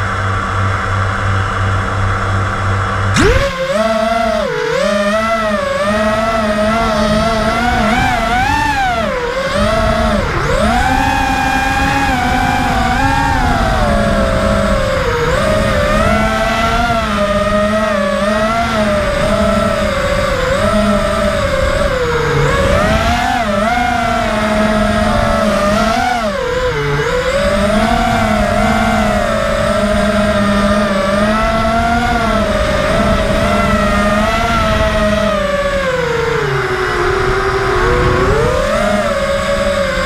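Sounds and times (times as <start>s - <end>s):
drone motors whining: 0.0s - 40.0s.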